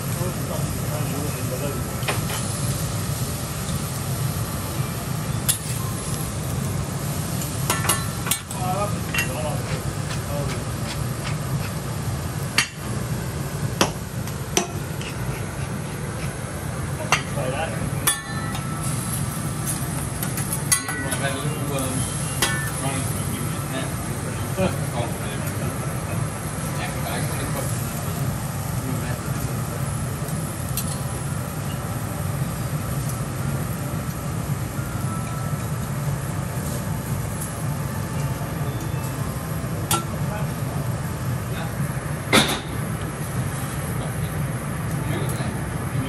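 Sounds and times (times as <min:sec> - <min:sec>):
lobster sizzling on griddle: 0:00.0 - 0:46.0
steady low hum: 0:00.0 - 0:46.0.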